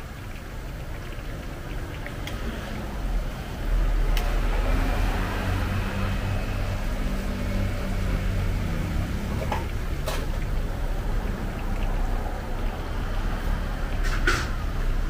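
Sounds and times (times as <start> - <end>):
oil bubbling and sizzling in a wok: 0.0 - 15.0.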